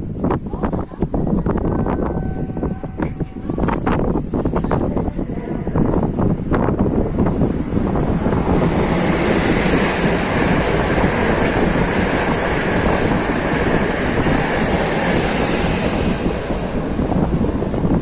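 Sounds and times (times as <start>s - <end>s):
train wheels rumbling on rails: 0.0s - 18.0s
wind on microphone: 0.0s - 18.0s.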